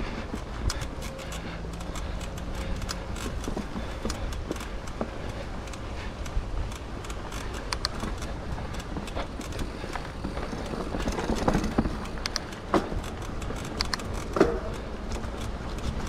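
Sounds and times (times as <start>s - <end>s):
bike and stone rattles: 0.0s - 16.0s
bike tyres rumbling on dirt: 0.0s - 16.0s.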